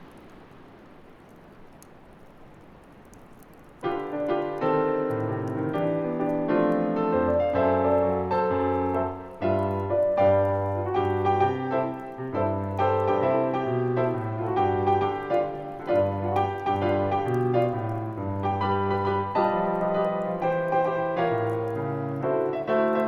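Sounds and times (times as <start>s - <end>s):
solo piano christmas song: 3.8s - 23.0s.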